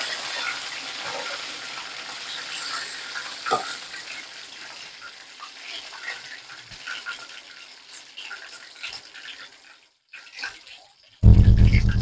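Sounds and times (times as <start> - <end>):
oil sizzling in a pan: 0.0 - 11.2.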